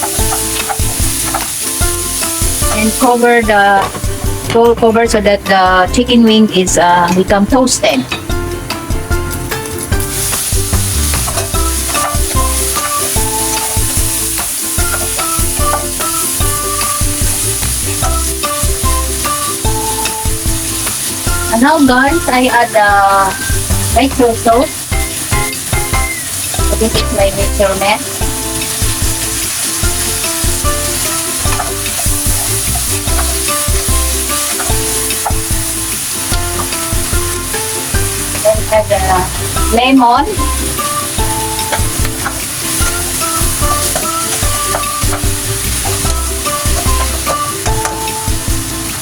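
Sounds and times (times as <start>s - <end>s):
background melody of stepping notes: 0.0s - 49.0s
chicken wings sizzling in a pan: 0.0s - 49.0s.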